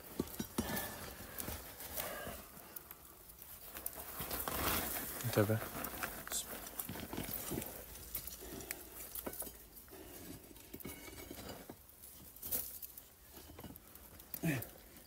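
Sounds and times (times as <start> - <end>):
hand scraping through soil and stones: 0.0 - 15.0.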